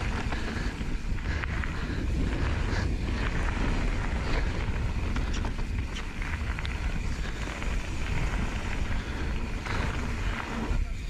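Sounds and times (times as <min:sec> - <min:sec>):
bike rolling on gravel: 0:00.0 - 0:11.0
wind buffeting microphone: 0:00.0 - 0:11.0.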